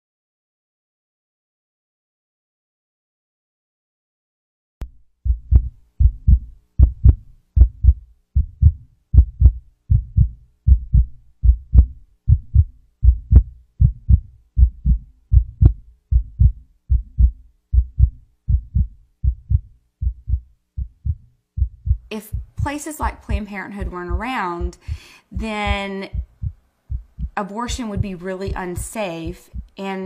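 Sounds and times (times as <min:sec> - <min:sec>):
heartbeat double thumps: 0:04.8 - 0:29.8.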